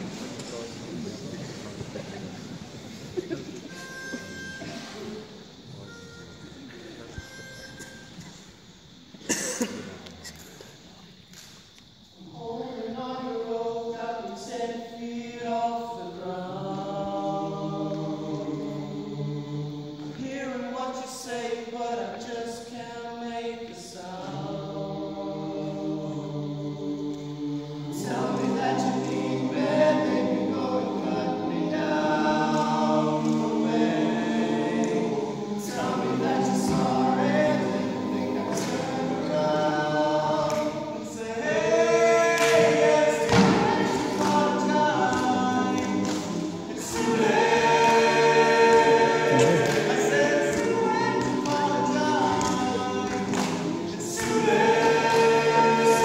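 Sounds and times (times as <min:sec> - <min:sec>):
men's choir singing in harmony: 0:00.0 - 0:08.4, 0:11.2 - 0:56.0.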